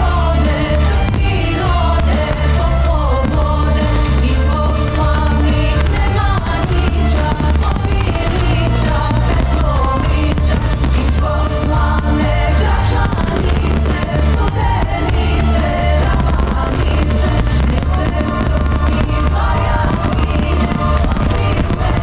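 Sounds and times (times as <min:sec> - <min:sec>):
fireworks bursting and crackling: 0:00.0 - 0:22.0
loud music with heavy bass: 0:00.0 - 0:22.0.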